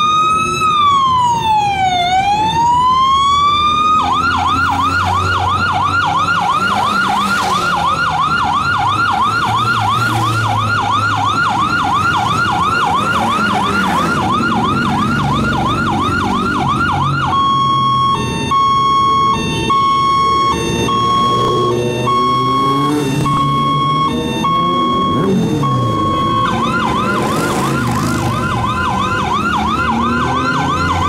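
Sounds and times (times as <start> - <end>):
emergency vehicle siren: 0.0 - 31.0
motorcycles passing: 2.9 - 31.0.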